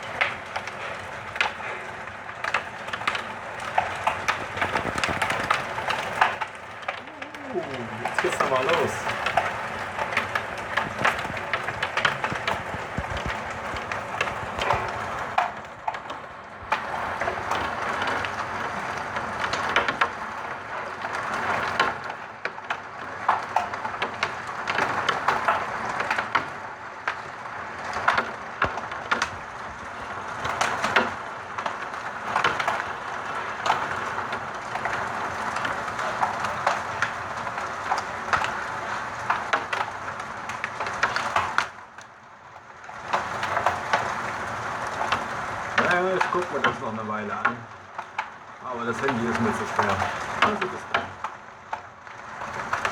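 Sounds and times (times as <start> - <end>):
heavy rain and hail: 0.0 - 52.9.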